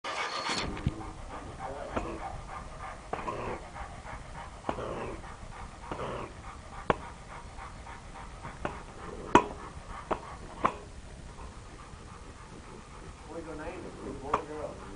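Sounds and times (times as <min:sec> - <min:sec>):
dog panting: 0:00.1 - 0:14.9
dog sniffing: 0:00.1 - 0:14.9.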